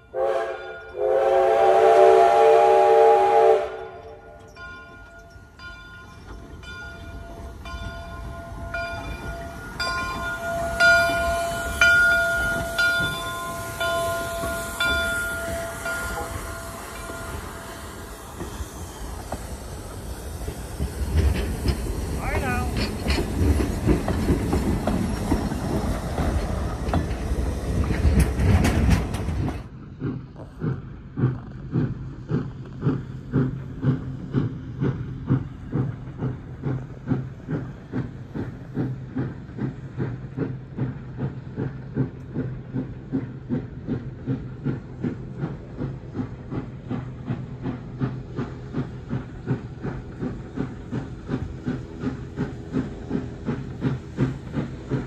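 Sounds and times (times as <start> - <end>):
distant steam locomotive chuffing: 0.0 - 55.0
train wheels clattering over rail joints: 4.0 - 55.0.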